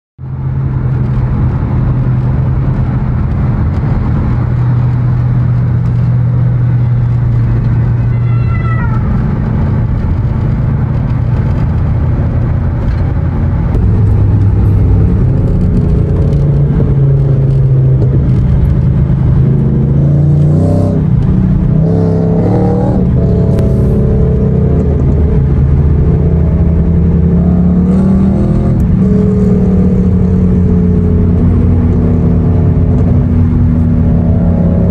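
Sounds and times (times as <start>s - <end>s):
car engine running: 0.2s - 34.9s
engine revving: 0.3s - 34.9s.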